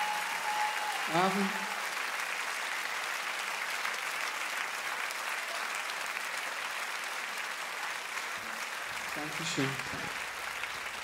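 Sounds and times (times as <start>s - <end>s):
audience applauding and cheering: 0.0s - 11.0s.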